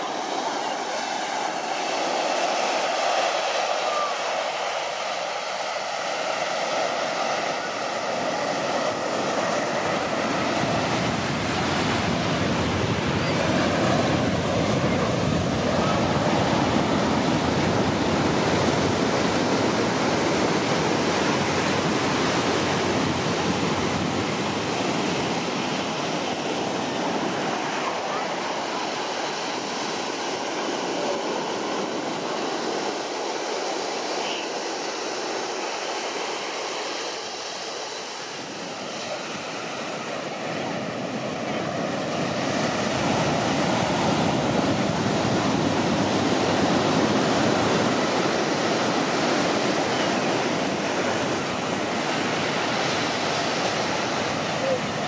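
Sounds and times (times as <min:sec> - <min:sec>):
ocean surf on beach: 0:00.0 - 0:55.0.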